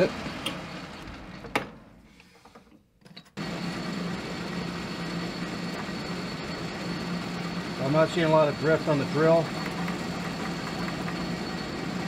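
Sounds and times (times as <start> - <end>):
metal lathe running: 0.0 - 1.4, 3.4 - 12.0.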